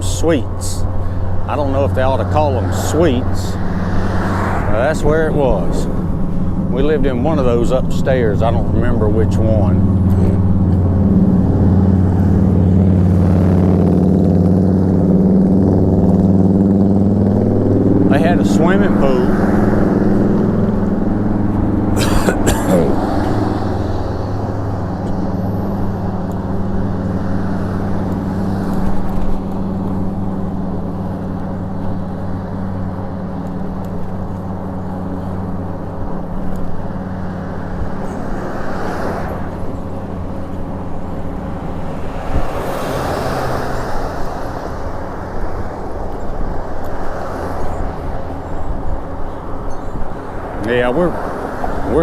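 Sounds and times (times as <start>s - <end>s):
cars passing: 0.0s - 52.0s
vehicle engine humming: 0.0s - 52.0s.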